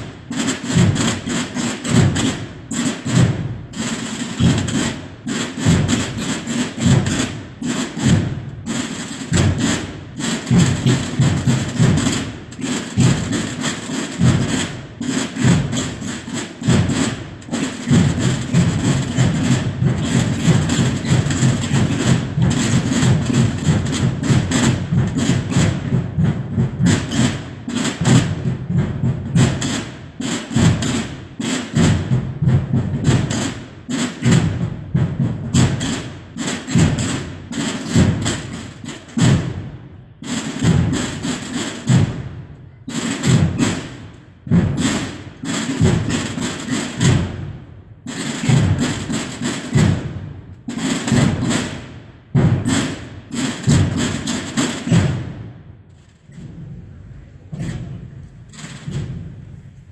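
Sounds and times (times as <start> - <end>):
drums beating rapidly: 0.0 - 55.5, 56.3 - 59.8.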